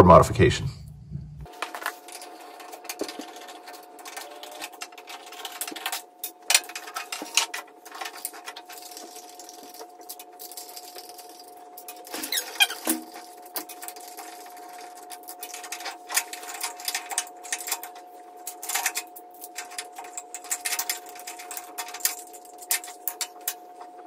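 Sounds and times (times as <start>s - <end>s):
faint high hum: 0.0s - 24.0s.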